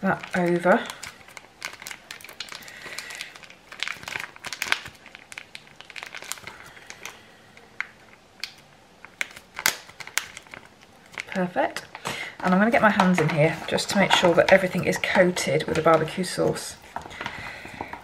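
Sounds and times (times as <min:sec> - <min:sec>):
plastic sachet crinkling: 0:00.0 - 0:18.0.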